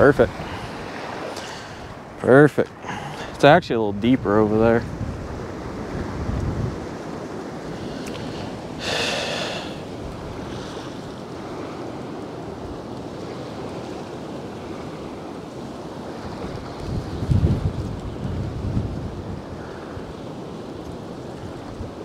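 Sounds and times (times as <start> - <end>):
waves lapping at shore: 0.0 - 22.0
wind buffeting microphone: 0.0 - 22.0.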